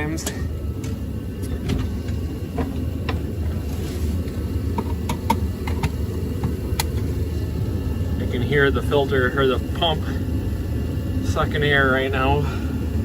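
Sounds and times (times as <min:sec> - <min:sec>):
heater roaring: 0:00.0 - 0:13.0.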